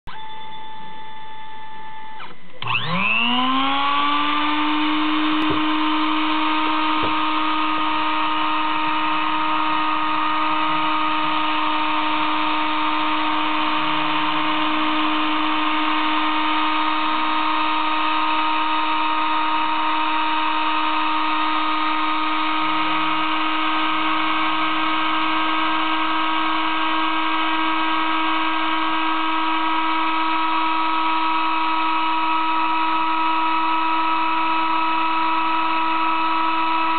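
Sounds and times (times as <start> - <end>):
cutter engraving plastic: 0.1 - 36.9
spindle motor whine: 0.1 - 36.9.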